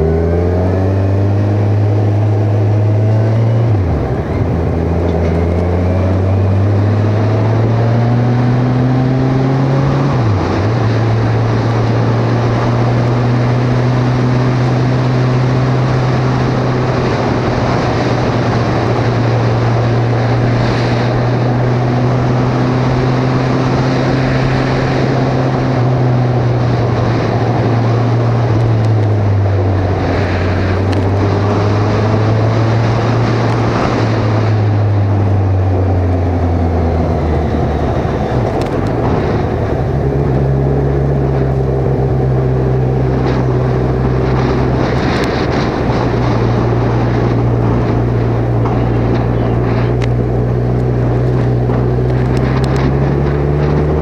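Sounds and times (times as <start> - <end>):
motorcycle engine running: 0.0 - 54.0
wind rush noise: 0.0 - 54.0.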